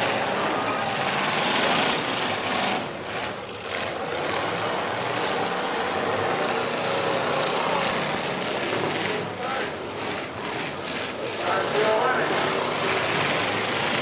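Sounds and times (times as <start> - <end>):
car engines running together: 0.0 - 14.0.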